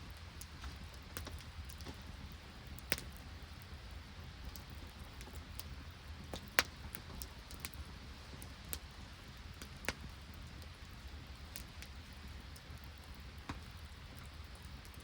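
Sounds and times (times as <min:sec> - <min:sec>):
campfire crackling: 0:00.0 - 0:15.0
fire rumble and hiss: 0:00.0 - 0:15.0.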